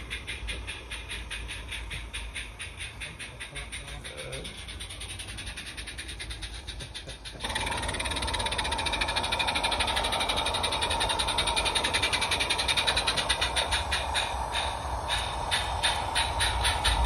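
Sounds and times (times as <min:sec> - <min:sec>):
steam locomotive running: 0:00.0 - 0:17.0.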